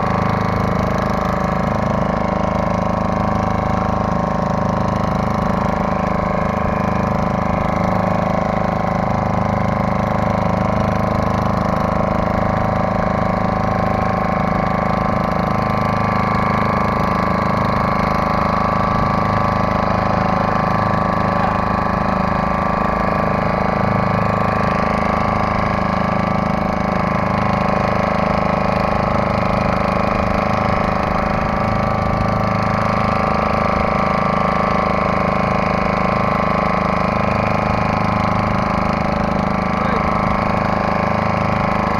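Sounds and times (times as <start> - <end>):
outboard motor droning: 0.0 - 41.9.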